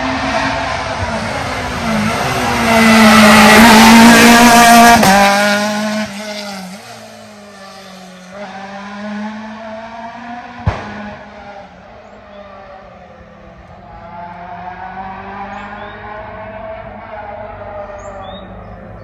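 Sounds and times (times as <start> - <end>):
rally car engine passing: 0.0 - 19.0.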